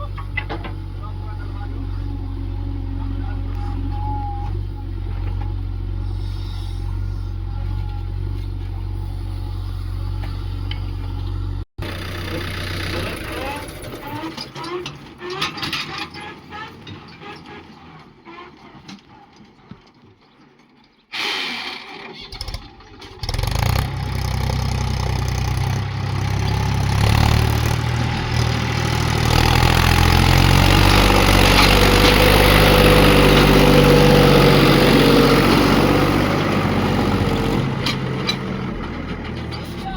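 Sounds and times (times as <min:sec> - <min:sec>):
diesel engine starting and running: 0:00.0 - 0:20.1, 0:21.1 - 0:39.9.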